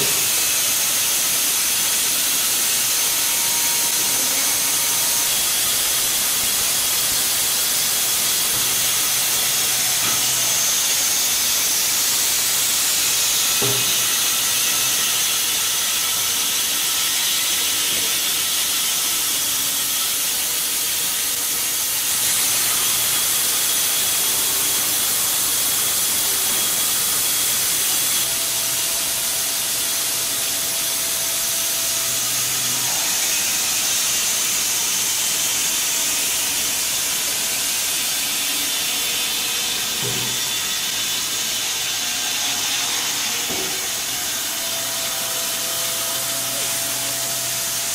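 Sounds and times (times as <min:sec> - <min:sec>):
saw blade cutting log: 0:00.0 - 0:47.9.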